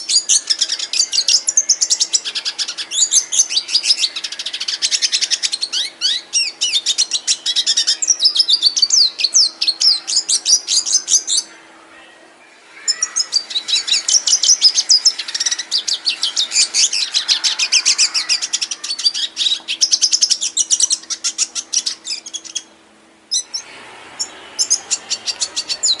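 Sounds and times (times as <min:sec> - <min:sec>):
finch singing trills: 0:00.0 - 0:11.6, 0:12.6 - 0:26.0
faint steady hum: 0:00.0 - 0:26.0.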